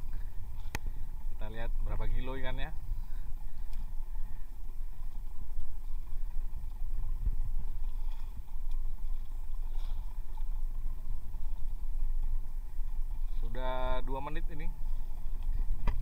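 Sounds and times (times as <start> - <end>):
low rumble aboard boat: 0.0 - 16.0.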